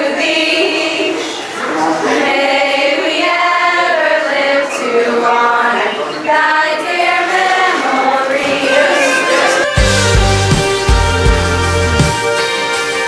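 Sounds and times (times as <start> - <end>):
voices holding long notes: 0.0 - 12.7.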